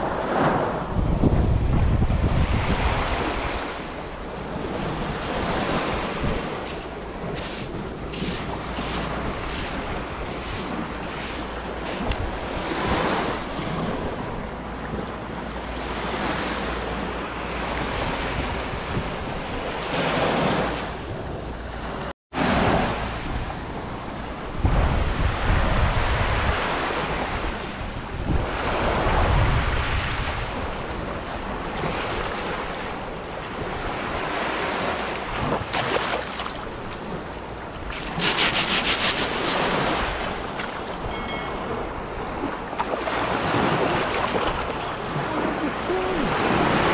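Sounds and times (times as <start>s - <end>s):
wind buffeting microphone: 0.0s - 15.4s, 16.0s - 21.7s, 22.4s - 46.9s
waves washing onto a beach: 2.2s - 21.2s, 21.9s - 46.9s.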